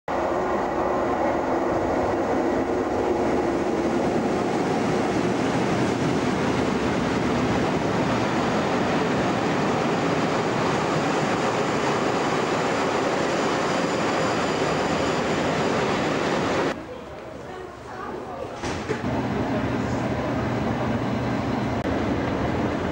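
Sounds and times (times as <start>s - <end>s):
train wheels on rails: 0.1s - 16.8s, 18.6s - 22.9s
diesel locomotive engine: 0.1s - 17.4s, 18.8s - 22.9s.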